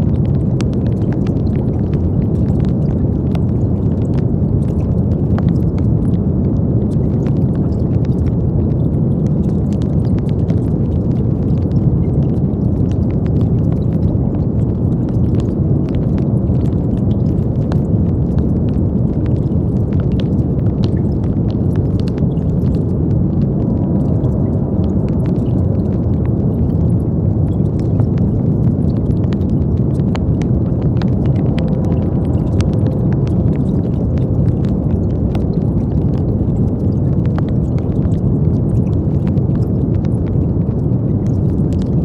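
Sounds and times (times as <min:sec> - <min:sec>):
faint crackles: 0:00.0 - 0:42.0.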